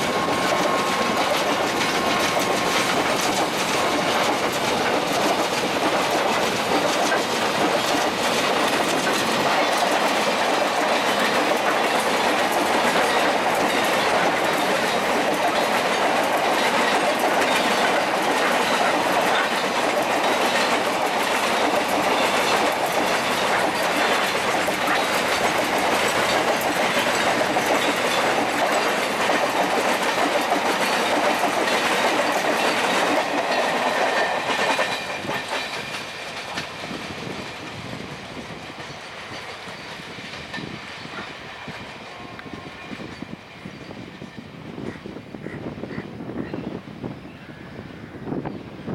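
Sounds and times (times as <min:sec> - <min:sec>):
freight train wheels clattering: 0:00.0 - 0:45.6.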